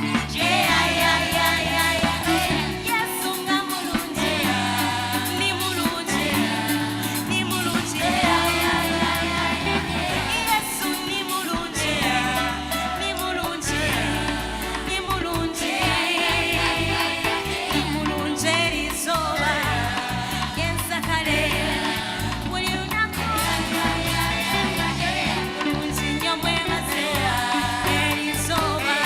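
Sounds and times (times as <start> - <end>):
voices singing: 0.0 - 29.0
worship band playing: 0.0 - 29.0.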